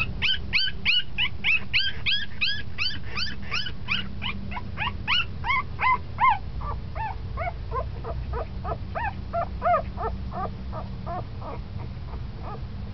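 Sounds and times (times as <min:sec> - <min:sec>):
puppies whimpering: 0:00.0 - 0:12.7.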